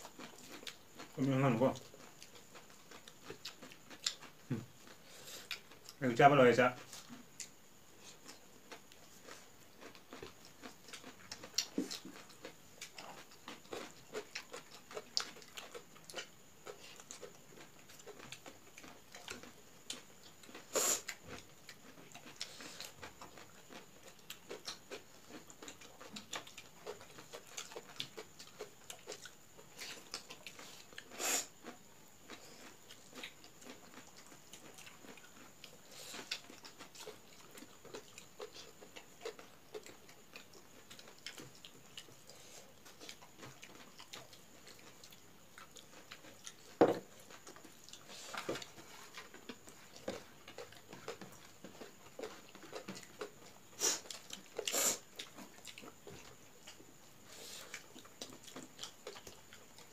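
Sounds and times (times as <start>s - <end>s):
chewing and lip smacking: 0.0s - 6.0s, 6.8s - 59.9s.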